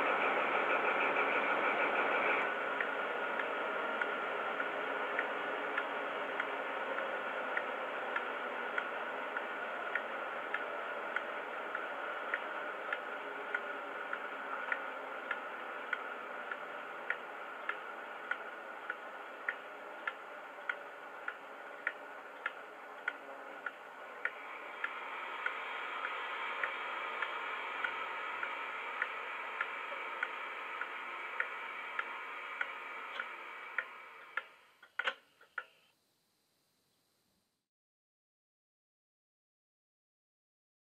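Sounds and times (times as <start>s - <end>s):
engine sound from small speaker: 0.0s - 37.6s.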